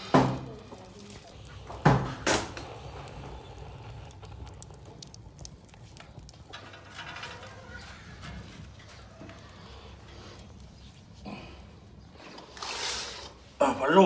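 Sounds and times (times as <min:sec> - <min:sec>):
straw crackling in stove fire: 0:00.0 - 0:14.0.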